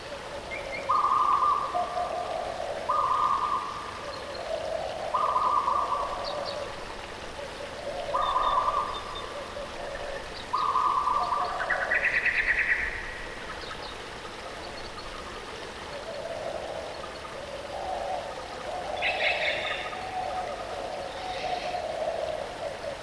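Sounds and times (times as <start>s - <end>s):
wild birds calling: 0.0s - 23.0s.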